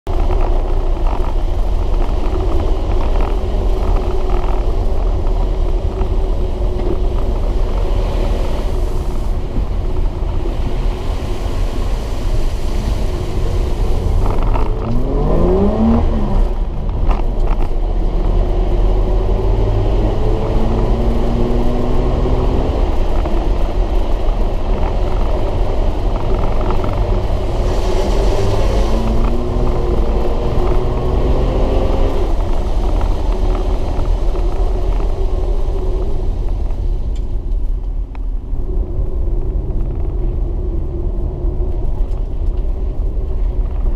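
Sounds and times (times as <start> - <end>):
engine rumble inside cabin: 0.1 - 43.9.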